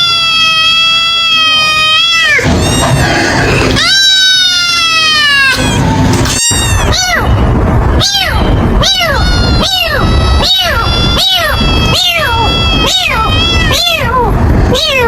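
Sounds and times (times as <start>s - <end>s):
kitten meowing: 0.0s - 15.0s.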